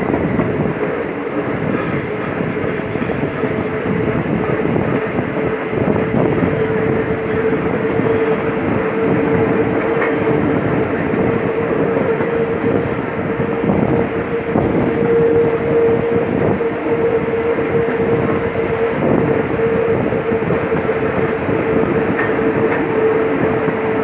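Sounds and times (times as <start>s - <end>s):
electric train hum: 0.0s - 24.0s
train wheels clattering on rails: 0.0s - 24.0s.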